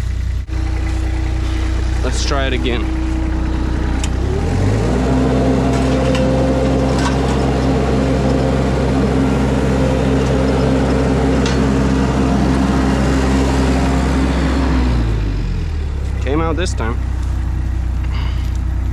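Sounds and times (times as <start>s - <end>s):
engine revving under load: 0.0s - 18.9s.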